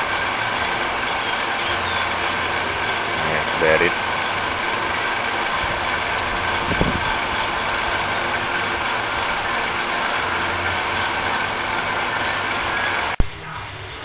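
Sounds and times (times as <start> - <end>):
refrigeration unit humming: 0.0 - 14.0.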